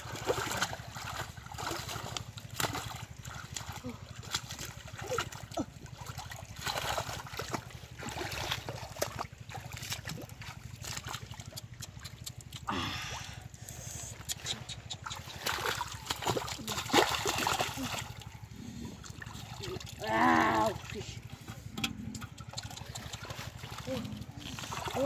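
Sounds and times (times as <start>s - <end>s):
hands splashing in muddy water: 0.0s - 21.3s, 22.1s - 25.0s.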